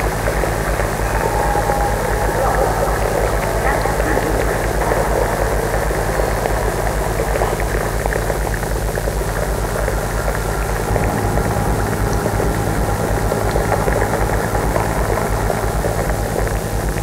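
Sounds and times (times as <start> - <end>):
crackling noise: 0.0 - 17.0
deep stuttering hum: 0.0 - 17.0
electronic noise drone: 0.0 - 17.0.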